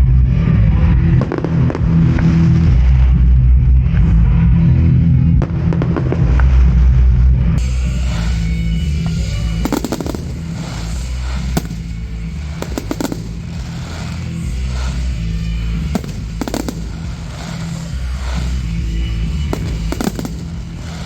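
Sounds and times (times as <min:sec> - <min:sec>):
firework bangs and crackling: 0:00.8 - 0:03.5, 0:05.3 - 0:21.0.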